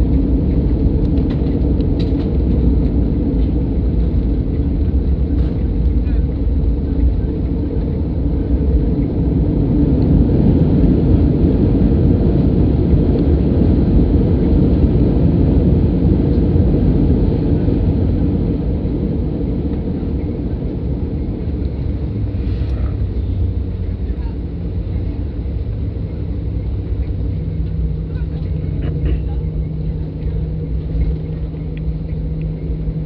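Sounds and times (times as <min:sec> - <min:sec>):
airplane cabin rumble: 0:00.0 - 0:33.0.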